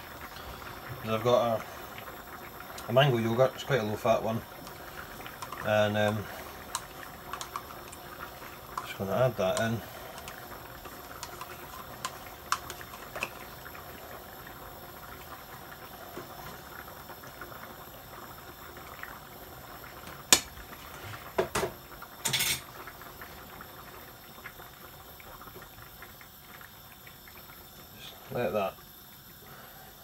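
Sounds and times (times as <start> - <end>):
curry simmering and bubbling: 0.0 - 29.9.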